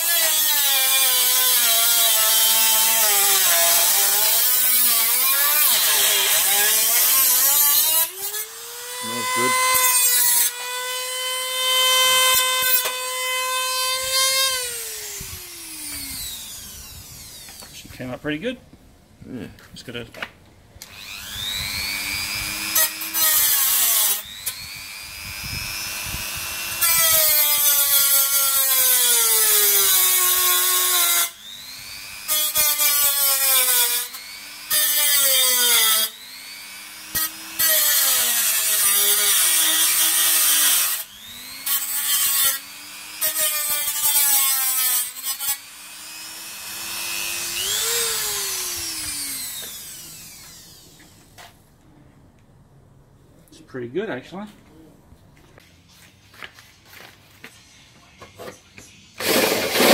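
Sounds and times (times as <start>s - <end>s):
rotary tool grinding metal: 0.0s - 17.8s, 20.8s - 51.4s, 59.2s - 59.9s.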